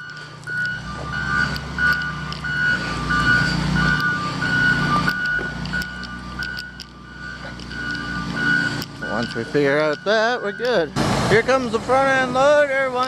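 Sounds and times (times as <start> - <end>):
reversing alarm beeping: 0.0 - 11.4
heavy equipment engine rumble: 0.0 - 13.0.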